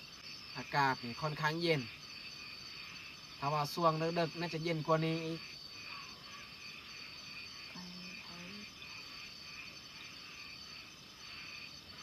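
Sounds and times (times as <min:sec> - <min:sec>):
frogs calling in chorus: 0:00.0 - 0:12.0
high insect trill: 0:00.0 - 0:12.0.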